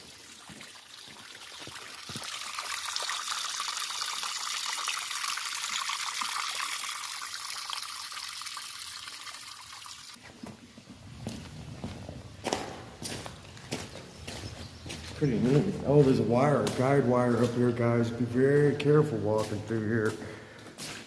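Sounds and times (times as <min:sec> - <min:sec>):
water trickling through culvert: 0:00.0 - 0:10.2, 0:11.0 - 0:21.0.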